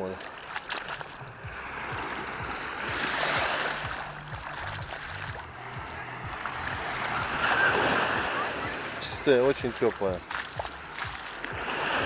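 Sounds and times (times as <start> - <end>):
sea waves washing onto beach: 0.0 - 12.0.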